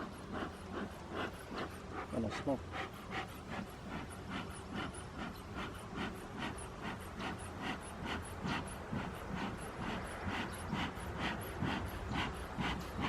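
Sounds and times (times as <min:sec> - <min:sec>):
bellows puffing air: 0:00.0 - 0:13.0.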